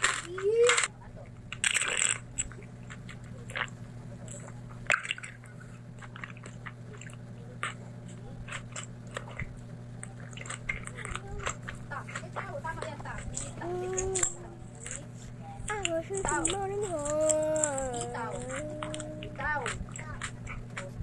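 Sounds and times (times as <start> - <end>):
faint hum: 0.0 - 21.0
chewing with wet mouth clicks: 1.3 - 21.0
bite: 1.5 - 15.0, 15.7 - 21.0.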